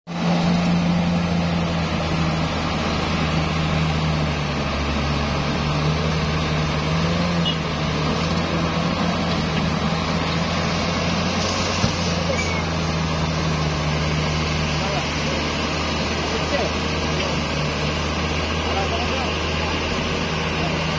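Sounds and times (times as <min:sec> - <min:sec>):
bulldozer diesel engine under load: 0:00.1 - 0:20.9.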